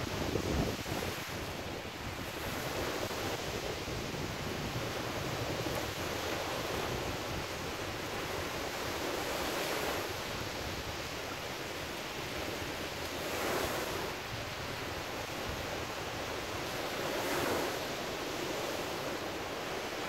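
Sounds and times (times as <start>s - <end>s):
small waves breaking on beach: 0.0s - 20.0s.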